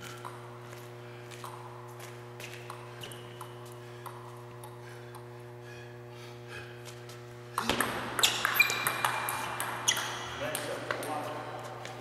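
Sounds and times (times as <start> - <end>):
low hum of hall: 0.0 - 12.0.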